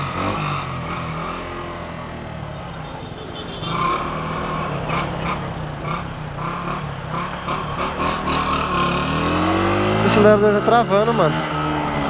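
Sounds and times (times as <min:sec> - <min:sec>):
motorcycle engine running: 0:00.0 - 0:12.0
road and traffic noise: 0:00.0 - 0:12.0.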